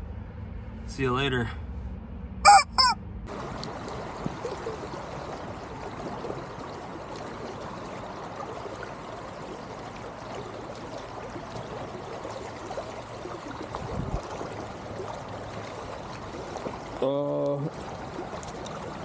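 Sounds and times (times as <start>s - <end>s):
stream water flowing: 2.5s - 19.0s.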